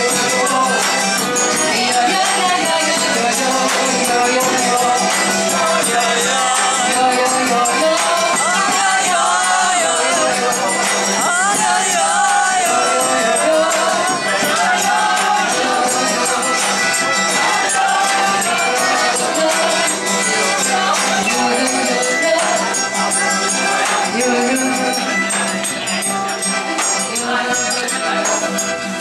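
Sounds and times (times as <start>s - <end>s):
accordion: 0.0s - 29.0s
acoustic guitar: 0.0s - 29.0s
jingling hand percussion: 0.0s - 29.0s
people singing: 0.0s - 29.0s.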